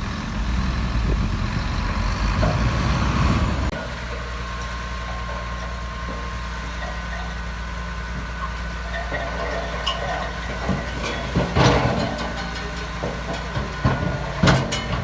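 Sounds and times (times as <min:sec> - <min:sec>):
engine idling: 0:00.0 - 0:15.0
heavy diesel engine working: 0:00.0 - 0:15.0.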